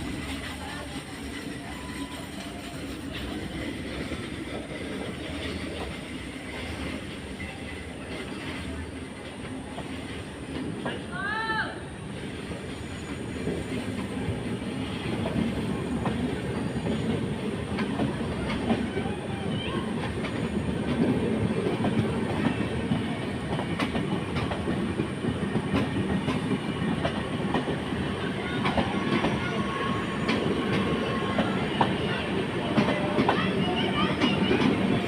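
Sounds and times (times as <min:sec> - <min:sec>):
train wheels clacking on rails: 0:00.0 - 0:11.3, 0:12.2 - 0:35.0.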